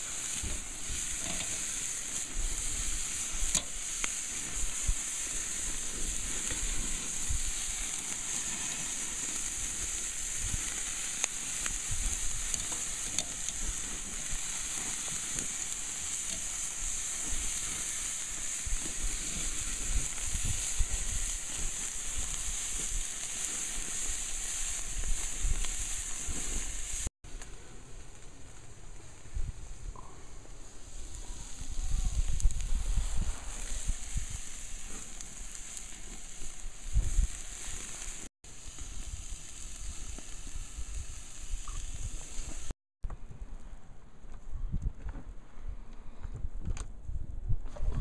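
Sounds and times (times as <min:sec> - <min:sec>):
meat sizzling on a grill: 0:00.0 - 0:27.1, 0:30.5 - 0:42.8
small crackles: 0:00.0 - 0:45.2.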